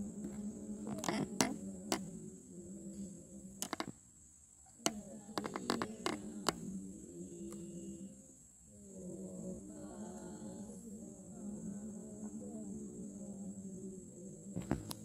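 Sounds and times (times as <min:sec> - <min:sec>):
voice chanting: 0:00.0 - 0:03.9, 0:04.8 - 0:15.0
night insects droning: 0:00.0 - 0:15.0.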